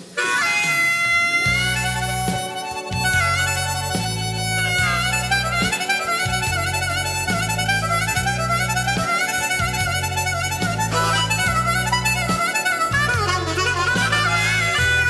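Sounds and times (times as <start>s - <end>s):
harmonica playing slow blues: 0.0s - 15.0s.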